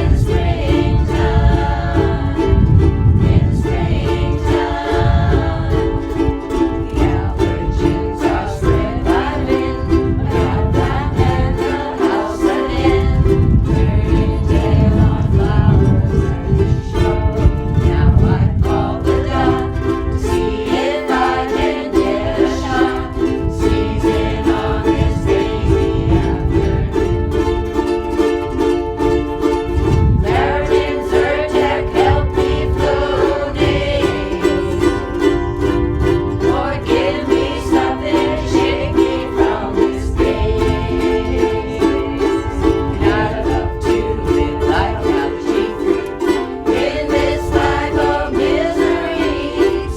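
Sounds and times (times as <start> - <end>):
ukuleles strumming: 0.0 - 49.9.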